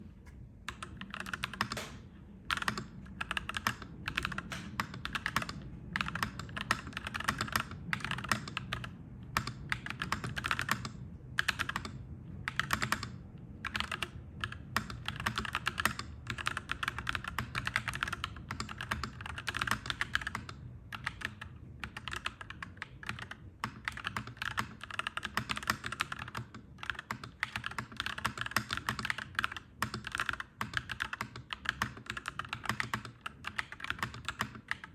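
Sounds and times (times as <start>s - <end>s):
mechanical keyboard typing: 0.7s - 34.9s.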